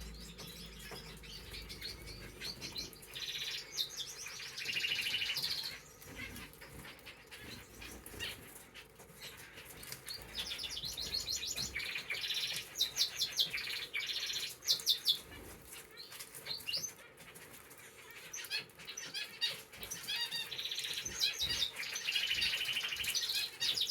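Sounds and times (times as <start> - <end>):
canaries and finches chirping: 0.0 - 23.9.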